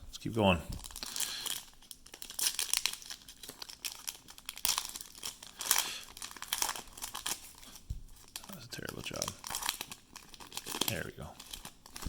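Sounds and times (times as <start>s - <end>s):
foil wrapper crinkling and tearing: 0.8s - 12.0s.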